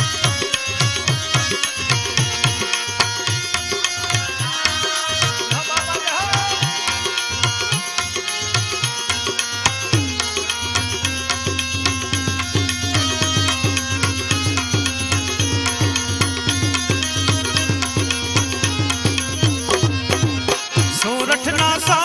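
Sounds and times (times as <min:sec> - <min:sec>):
hand drum rhythm: 0:00.0 - 0:22.0
held melody notes: 0:01.5 - 0:22.0.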